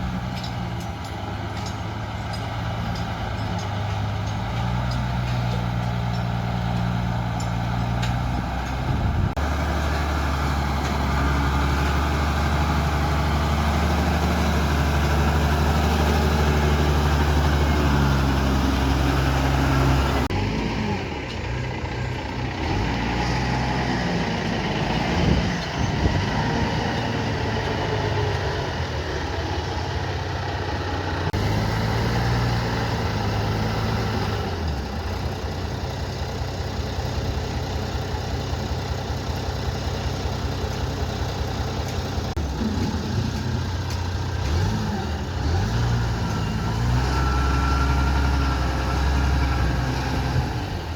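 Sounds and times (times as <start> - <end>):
construction machinery engine drone: 0.0 - 50.9.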